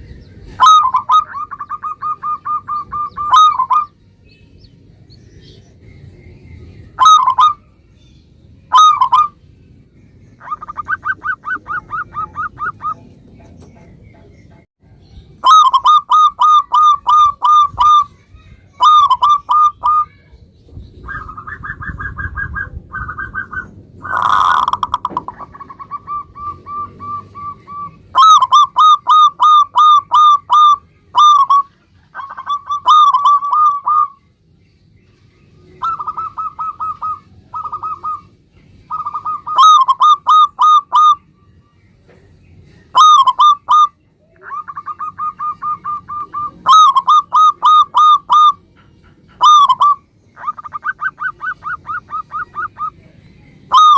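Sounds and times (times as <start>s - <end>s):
dove cooing: 0.0s - 3.9s, 6.6s - 7.8s, 8.7s - 9.4s, 10.4s - 14.3s, 15.4s - 18.1s, 18.8s - 20.2s, 21.0s - 34.2s, 35.7s - 41.2s, 42.9s - 53.9s.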